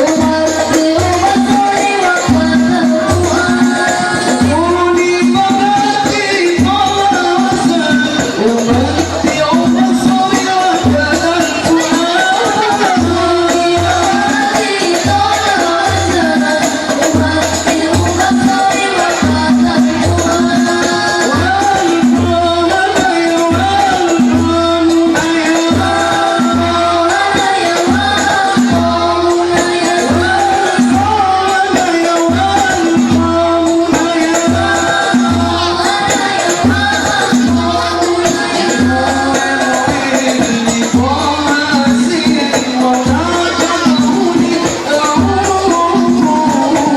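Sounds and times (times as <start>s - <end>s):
voices singing together: 0.0s - 46.9s.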